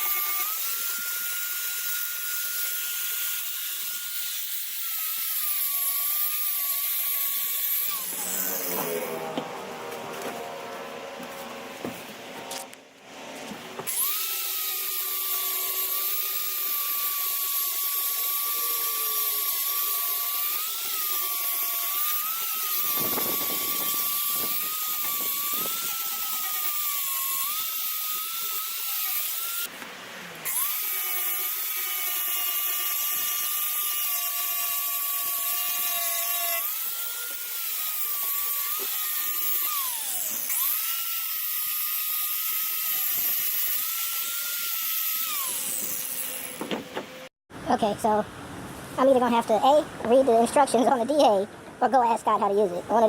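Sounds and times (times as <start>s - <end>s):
air sander whining: 0.0s - 47.3s.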